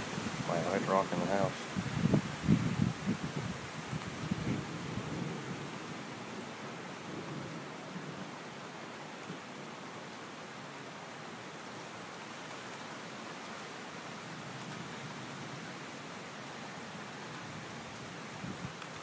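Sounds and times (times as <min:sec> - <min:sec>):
rain falling: 0:00.0 - 0:19.0
wind through trees: 0:00.0 - 0:19.0.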